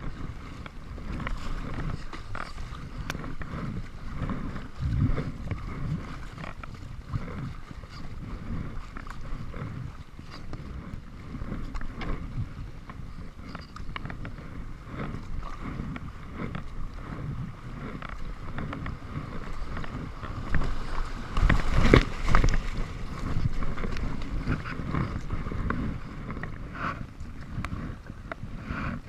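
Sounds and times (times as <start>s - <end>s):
paddle splashes: 0.0s - 29.0s
water lapping at hull: 0.0s - 29.0s
wind buffeting microphone: 0.0s - 29.0s.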